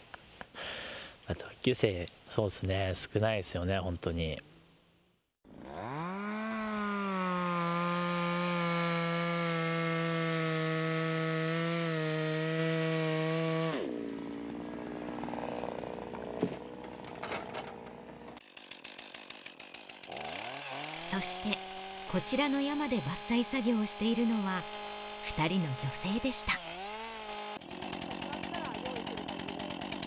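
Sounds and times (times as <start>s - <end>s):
chainsaw engine revving: 5.4s - 30.0s.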